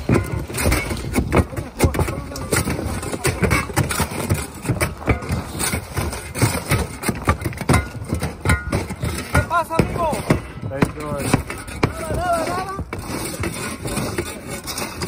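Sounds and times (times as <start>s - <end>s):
shingles clattering down: 0.0s - 15.0s
shovels scraping shingles: 0.0s - 15.0s.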